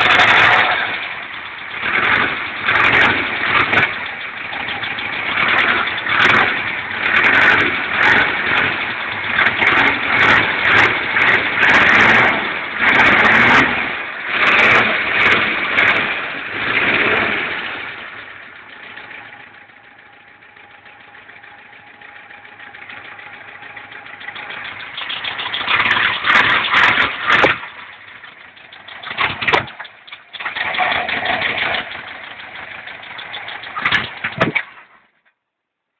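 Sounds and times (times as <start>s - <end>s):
car engine revving and idling: 0.0s - 34.9s.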